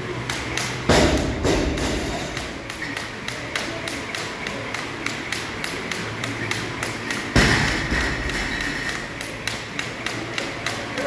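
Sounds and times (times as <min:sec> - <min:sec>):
jump rope slapping the floor: 0:00.2 - 0:11.0.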